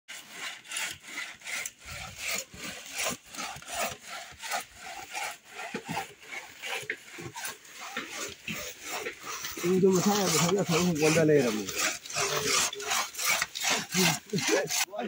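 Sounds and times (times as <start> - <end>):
crosscut saw rasping through wood: 0.1 - 15.0.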